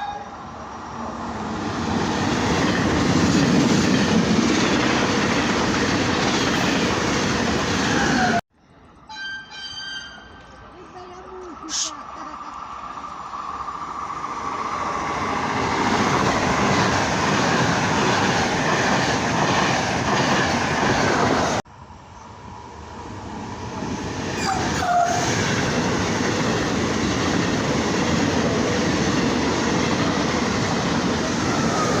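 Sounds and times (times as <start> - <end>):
train rolling past: 0.0 - 32.0.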